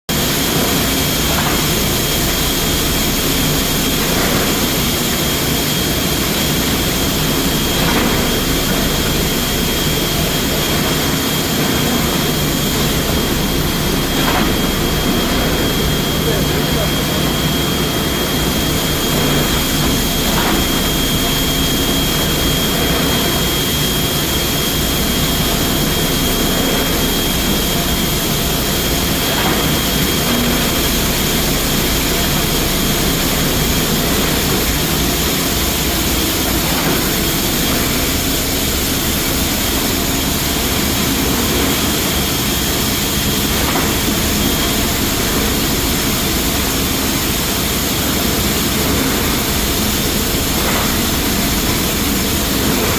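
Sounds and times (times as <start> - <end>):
high whine: 0.1 - 52.9
mill machinery din: 0.1 - 52.9.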